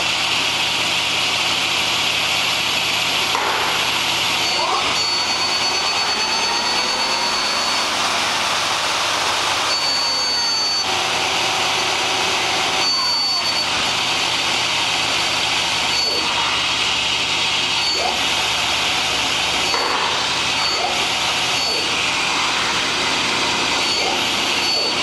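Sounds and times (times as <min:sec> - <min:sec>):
lathe machine whirring: 0:00.0 - 0:25.0
thin high whine: 0:03.3 - 0:25.0.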